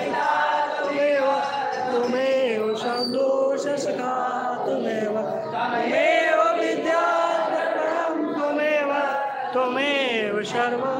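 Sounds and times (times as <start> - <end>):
group singing devotional chant: 0.0 - 10.9.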